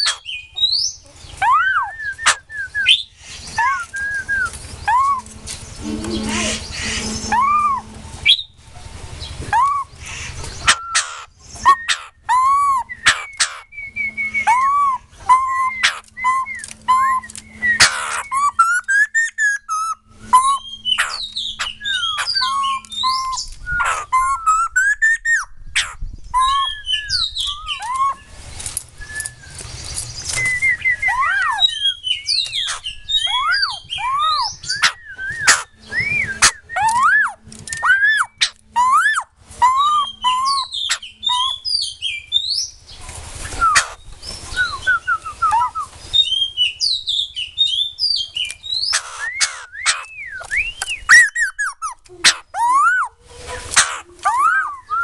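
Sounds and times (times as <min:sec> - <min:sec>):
bird singing whistles and trills: 0:00.0 - 0:08.6, 0:09.2 - 0:55.0.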